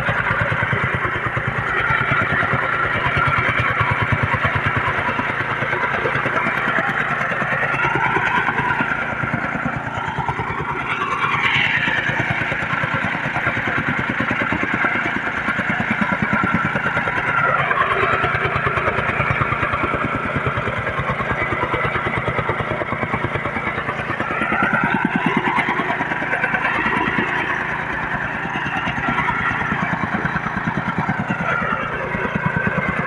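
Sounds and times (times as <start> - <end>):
small engine buzzing: 0.0 - 33.0.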